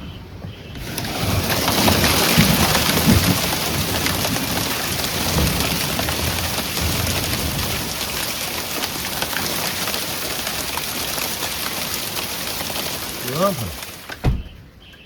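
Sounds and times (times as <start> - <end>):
heavy rain pelting hard surfaces: 0.6 - 14.5.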